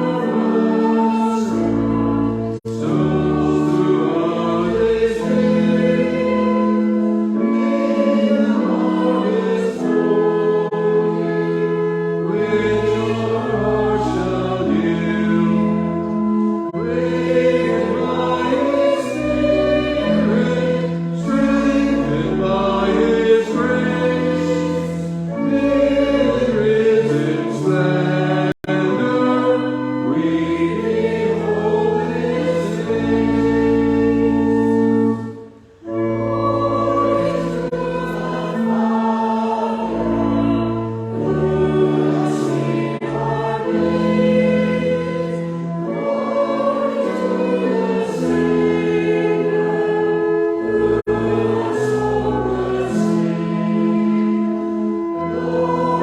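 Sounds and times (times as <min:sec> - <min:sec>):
congregation singing a hymn: 0:00.0 - 0:56.0
sustained accompaniment chords: 0:00.0 - 0:56.0.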